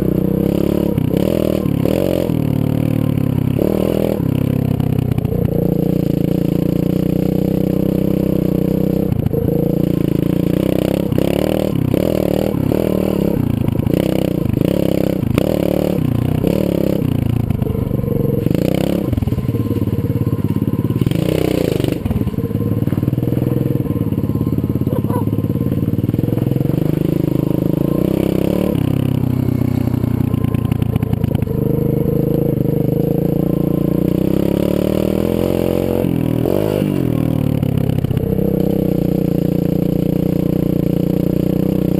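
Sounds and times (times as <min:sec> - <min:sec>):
motorbike engine running: 0:00.0 - 0:41.9.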